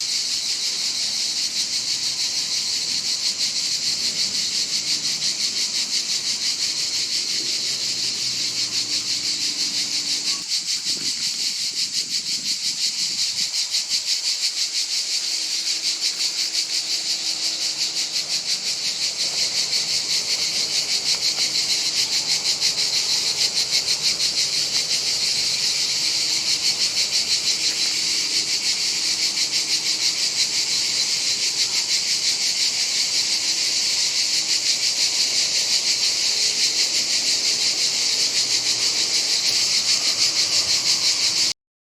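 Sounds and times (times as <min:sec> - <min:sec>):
cicadas buzzing: 0:00.0 - 0:41.6.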